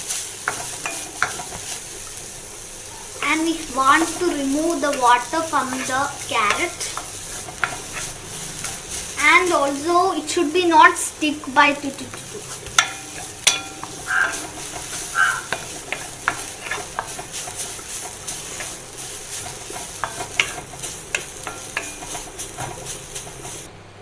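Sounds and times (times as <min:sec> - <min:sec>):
utensil scraping a pan: 0:00.0 - 0:02.1, 0:03.2 - 0:23.7
light sizzle: 0:00.0 - 0:24.0.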